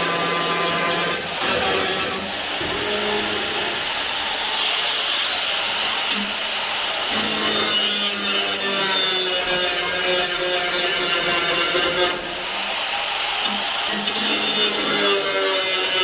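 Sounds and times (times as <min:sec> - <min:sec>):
power tool rasping: 0:00.0 - 0:16.0.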